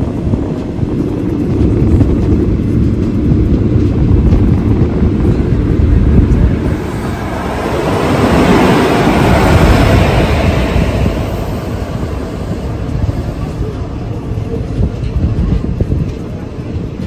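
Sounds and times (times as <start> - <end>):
moving train rumble: 0.0 - 17.0
passing locomotive: 0.0 - 17.0
wind noise: 0.0 - 17.0.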